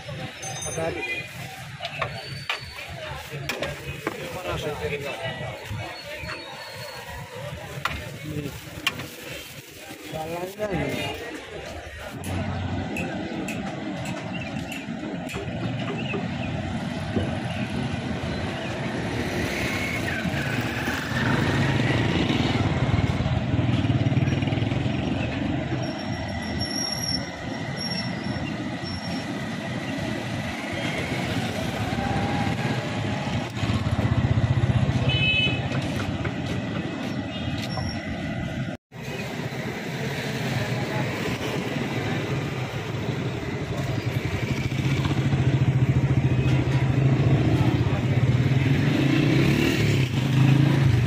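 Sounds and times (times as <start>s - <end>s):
vehicles passing: 0.0s - 51.0s.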